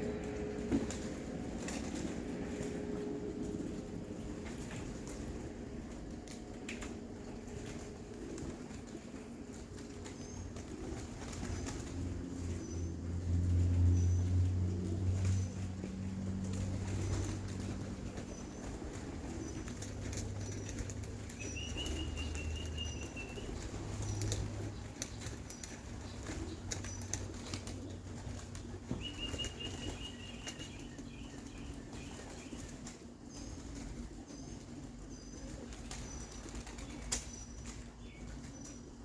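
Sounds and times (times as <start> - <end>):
pigeon wings flapping: 0.0 - 38.9.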